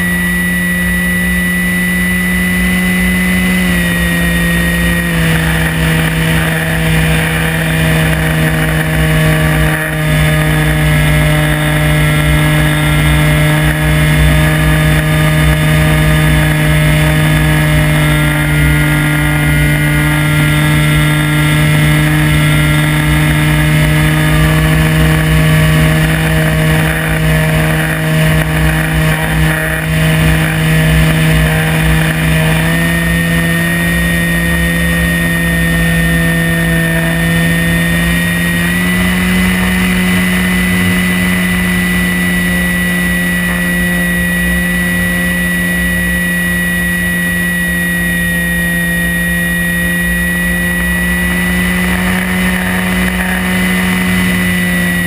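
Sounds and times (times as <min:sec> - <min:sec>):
model plane motor and propeller hum: 0:00.0 - 0:55.0.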